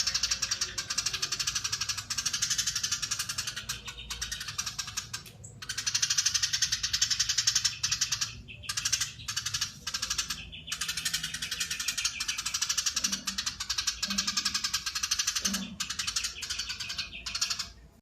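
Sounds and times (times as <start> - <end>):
sparrow chattering call: 0.0 - 17.8.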